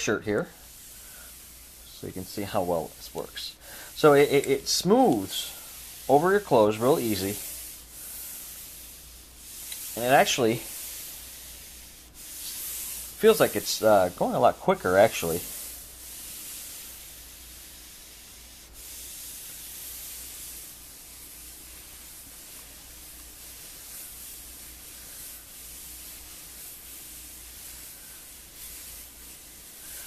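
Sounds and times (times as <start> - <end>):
iron hissing over fabric: 0.0 - 30.0.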